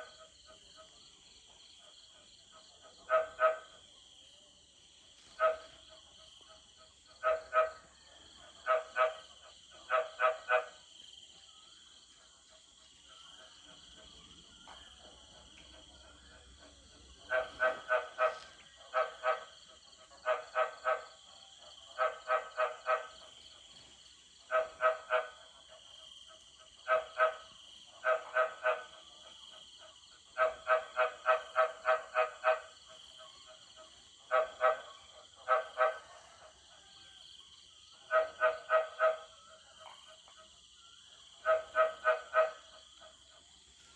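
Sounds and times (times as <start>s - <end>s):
frogs croaking: 0.0s - 43.9s.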